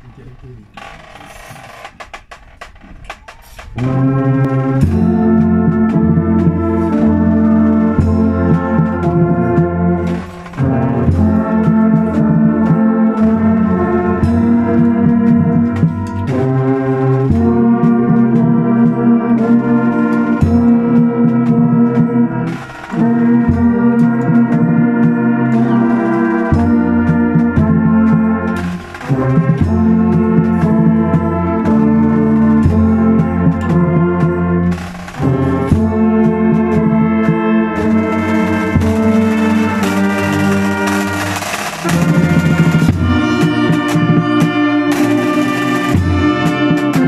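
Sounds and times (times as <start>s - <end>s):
brass band playing: 3.4s - 47.0s.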